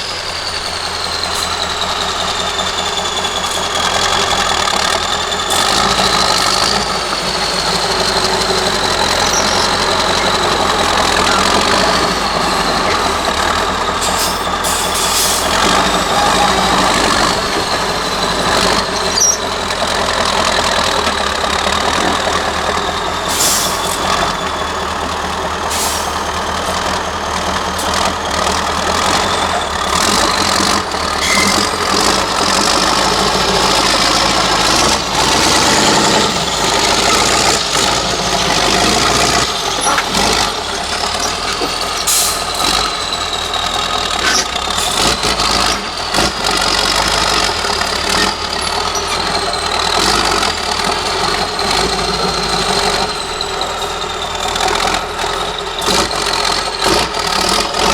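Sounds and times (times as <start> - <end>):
diesel truck engine: 0.0 - 57.9
truck knocks and clanks: 0.0 - 57.9.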